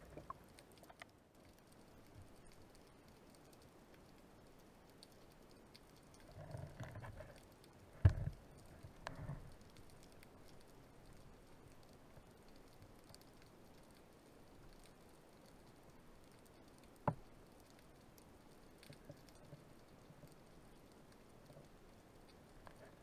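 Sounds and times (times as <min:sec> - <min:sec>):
faint underwater crackle: 0:00.0 - 0:23.0.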